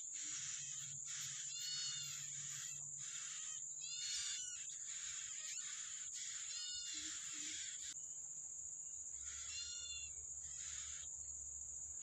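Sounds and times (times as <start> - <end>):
nestlings begging with raspy calls: 0.0 - 8.0, 9.2 - 11.1
steady high-pitched hiss: 0.0 - 12.0.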